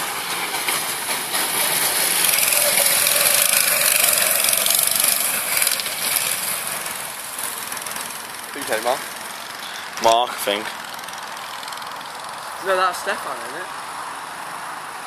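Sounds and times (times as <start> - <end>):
go-kart engines buzzing: 0.0 - 15.0.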